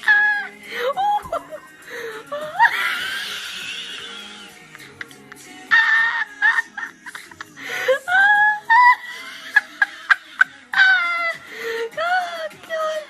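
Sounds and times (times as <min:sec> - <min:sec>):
high-pitched laughter and squeals: 0:00.0 - 0:04.7, 0:05.7 - 0:13.0
music: 0:00.0 - 0:13.0.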